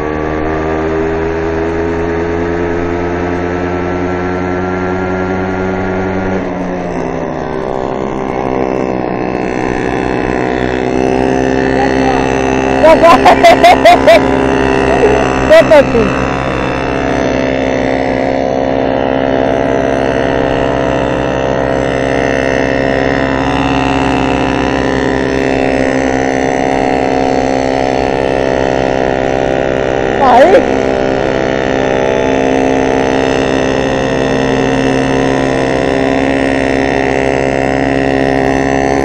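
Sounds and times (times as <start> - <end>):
loud downward sweeping sound: 0.0 - 39.0
moped engines at high revs: 0.0 - 39.0.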